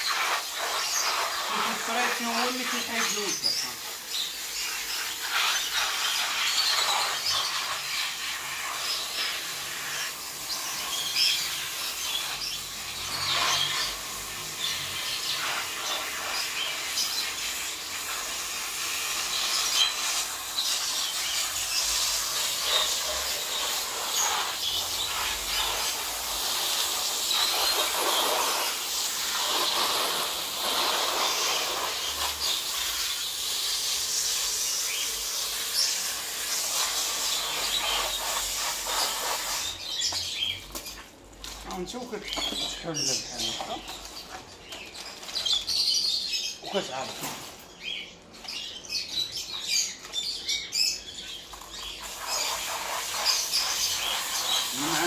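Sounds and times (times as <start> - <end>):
water jet hissing and splashing: 0.0 - 45.9, 51.2 - 55.0
small birds chirping: 0.0 - 55.0.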